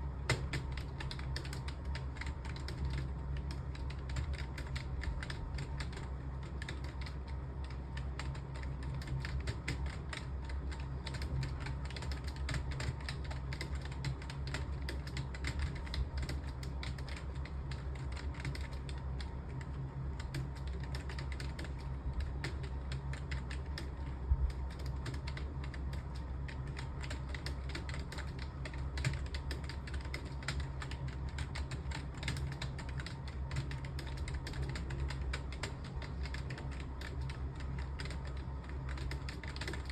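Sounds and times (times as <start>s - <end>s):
steady low hum: 0.0s - 39.9s
fast keyboard typing: 0.1s - 39.9s.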